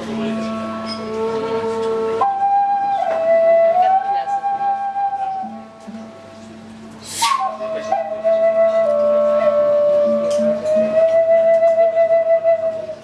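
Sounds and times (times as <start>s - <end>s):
solo flute long note: 0.0s - 6.0s, 7.0s - 13.0s.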